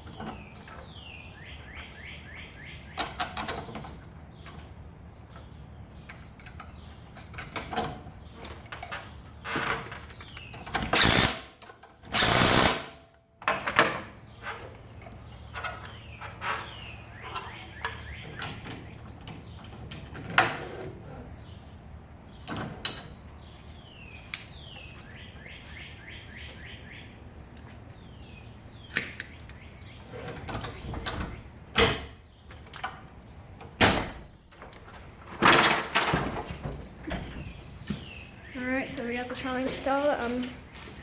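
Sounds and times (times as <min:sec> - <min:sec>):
birds chirping: 0:00.0 - 0:11.4, 0:14.1 - 0:20.2, 0:20.9 - 0:35.4, 0:36.1 - 0:41.0.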